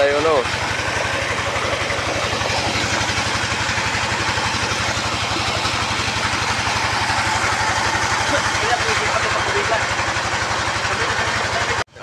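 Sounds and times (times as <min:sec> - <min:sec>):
water gushing from pipe: 0:00.0 - 0:11.8
engine-driven water pump running: 0:00.0 - 0:12.0.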